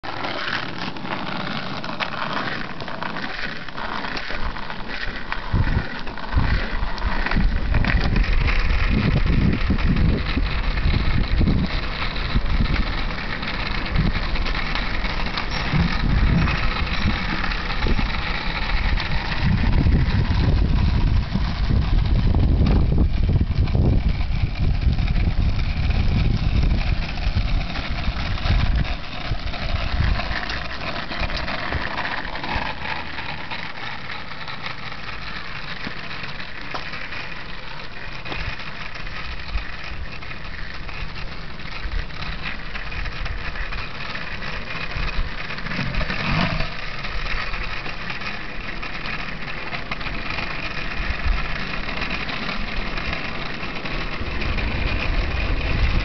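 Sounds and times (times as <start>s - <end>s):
skateboard wheels rolling on asphalt: 0.0s - 56.0s.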